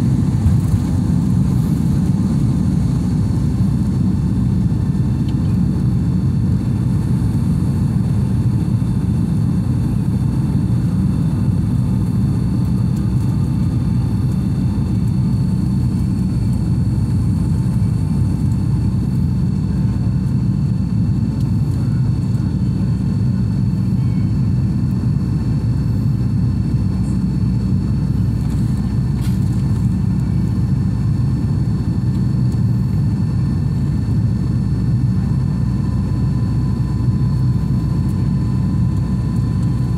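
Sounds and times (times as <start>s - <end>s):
jet engines rumbling at takeoff: 0.0s - 39.9s.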